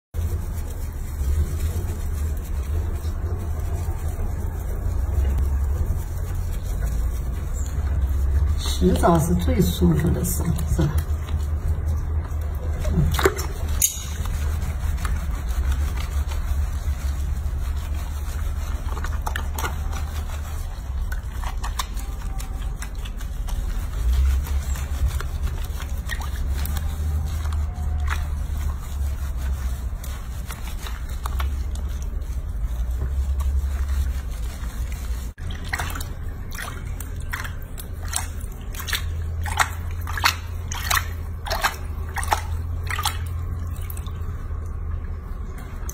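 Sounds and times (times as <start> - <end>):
hands rubbing wet fur: 0.2 - 45.9
low hum: 0.2 - 45.9
water sloshing and dripping: 0.2 - 45.9.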